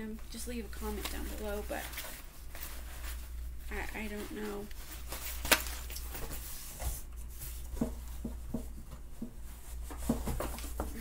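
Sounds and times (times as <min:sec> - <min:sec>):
clothes and cardboard rustling: 0:00.0 - 0:11.0.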